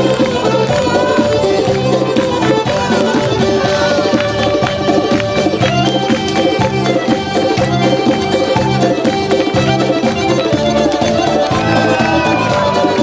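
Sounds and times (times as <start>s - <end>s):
folk dance music: 0.0s - 13.0s.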